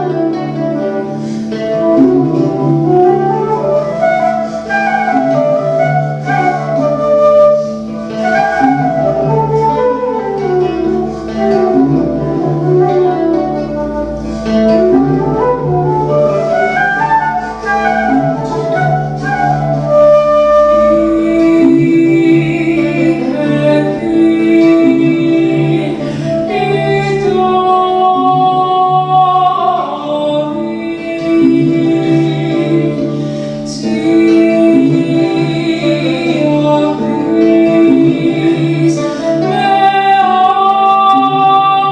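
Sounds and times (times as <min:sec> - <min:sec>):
flute melody: 0:00.0 - 0:41.9.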